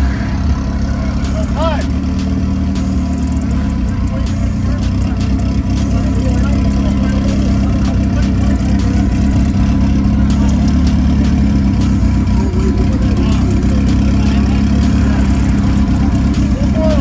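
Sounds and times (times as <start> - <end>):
car engines idling: 0.0 - 17.0.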